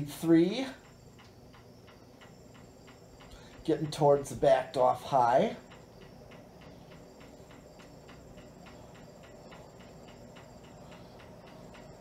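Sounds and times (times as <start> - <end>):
ceiling fan humming: 0.0 - 12.0
fan ticking: 0.0 - 12.0.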